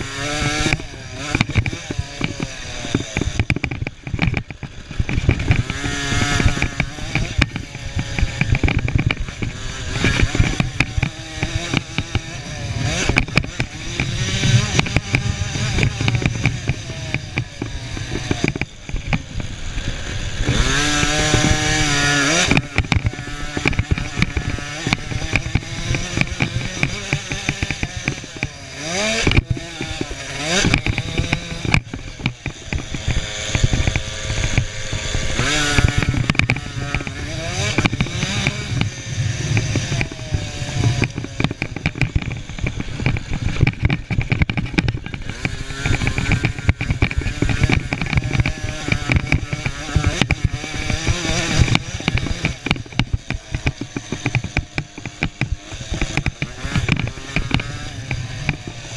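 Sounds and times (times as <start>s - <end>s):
motocross bike engines revving: 0.0s - 58.9s.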